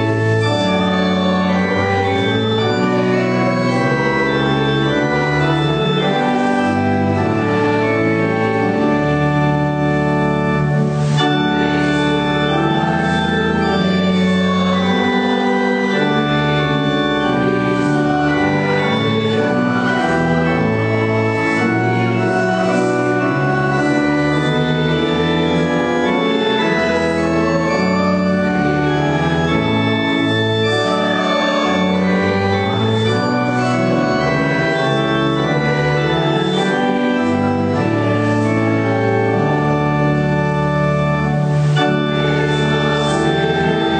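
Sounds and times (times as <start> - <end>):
church organ chords: 0.0 - 43.9.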